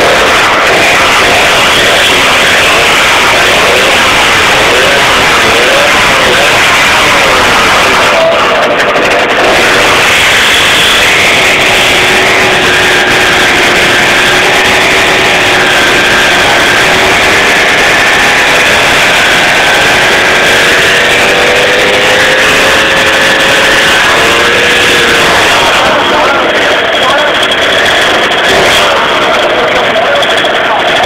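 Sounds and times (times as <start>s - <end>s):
moped engine revving high: 0.0s - 31.0s.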